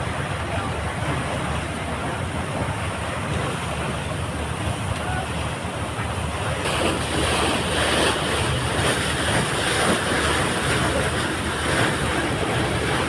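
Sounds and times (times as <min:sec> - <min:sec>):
low engine drone: 0:00.0 - 0:13.0
rushing water: 0:00.0 - 0:13.0
wind: 0:00.0 - 0:13.0.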